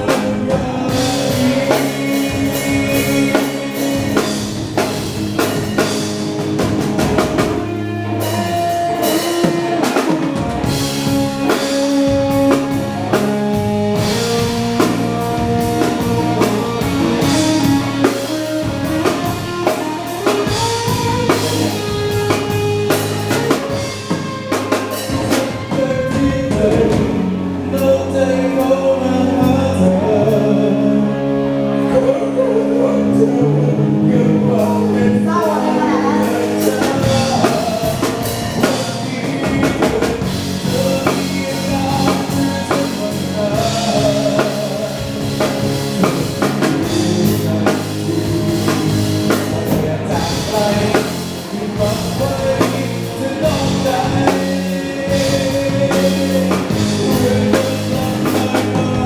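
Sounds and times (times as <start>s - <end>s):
drum kit beat: 0.0s - 30.5s, 34.4s - 59.0s
bass: 0.0s - 59.0s
held melodic notes: 0.0s - 59.0s
person singing: 0.0s - 59.0s.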